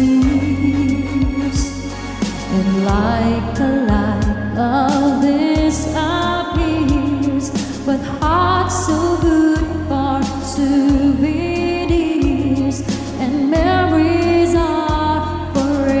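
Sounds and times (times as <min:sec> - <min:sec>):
pop song with vocals: 0:00.0 - 0:16.0.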